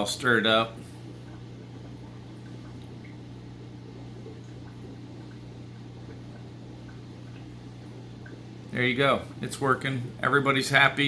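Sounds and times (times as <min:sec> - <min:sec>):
aquarium air pump humming: 0:00.0 - 0:11.0
bubbling and small pops: 0:00.0 - 0:11.0.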